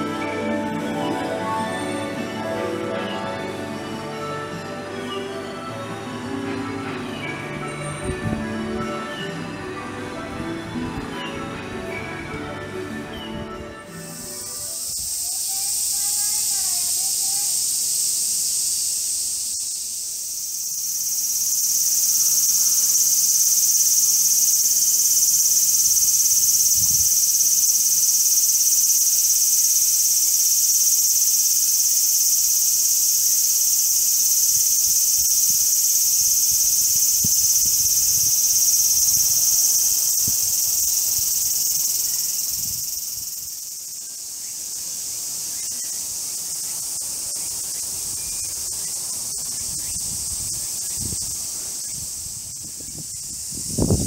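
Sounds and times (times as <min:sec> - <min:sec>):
cicadas buzzing: 0:00.0 - 0:10.6, 0:13.2 - 0:54.0.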